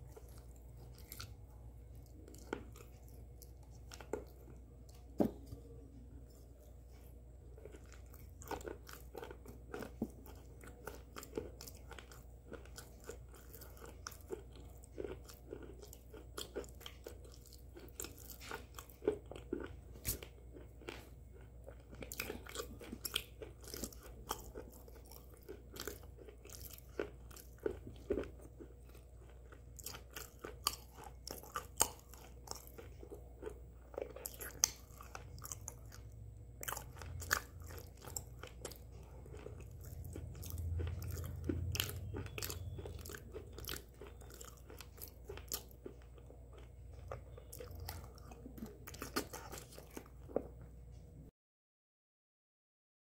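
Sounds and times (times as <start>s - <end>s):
mouth chewing crunchy food: 0.0s - 5.6s, 6.2s - 50.7s.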